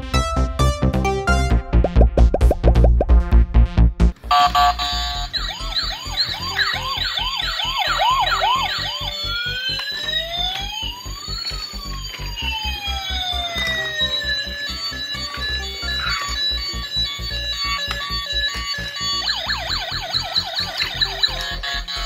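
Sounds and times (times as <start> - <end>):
music beat: 0.1 - 22.0
toy electronic siren: 4.3 - 22.0.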